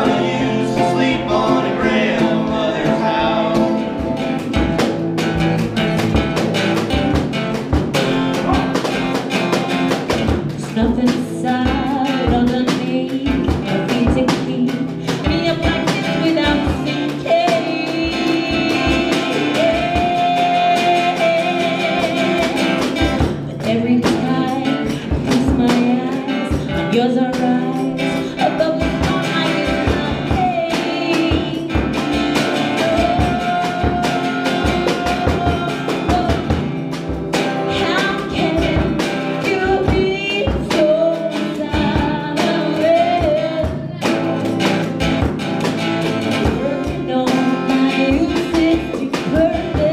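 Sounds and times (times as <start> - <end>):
woman singing: 0.0 - 7.2, 9.6 - 49.9
acoustic guitar strummed: 0.0 - 49.9
light drum beat: 0.0 - 49.9.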